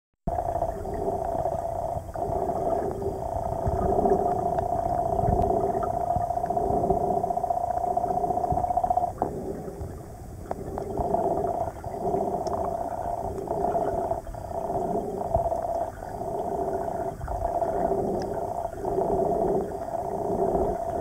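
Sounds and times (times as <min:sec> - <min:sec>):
underwater droning hum: 0:00.3 - 0:21.0
water swishing: 0:00.3 - 0:21.0.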